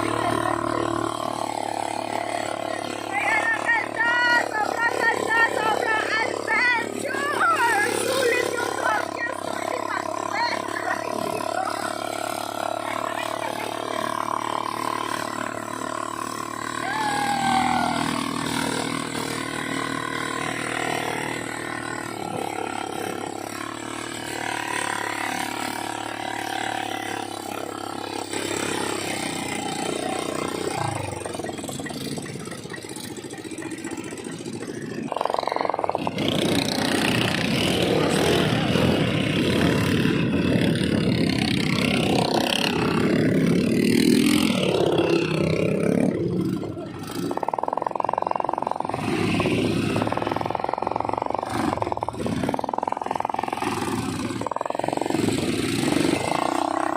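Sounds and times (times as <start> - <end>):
atv engine running: 0.0 - 56.9
loud rough noise: 0.0 - 56.9.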